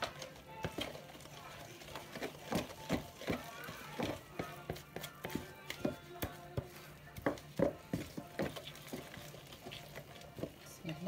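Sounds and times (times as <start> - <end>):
background music: 0.0 - 11.0
wooden stick stirring dough in bowl: 0.0 - 11.0.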